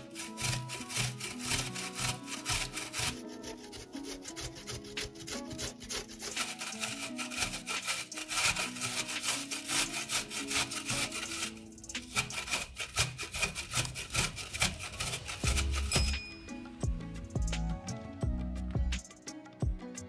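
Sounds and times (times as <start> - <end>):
frozen meat rasping on grater: 0.0 - 16.2
background music: 0.0 - 20.0.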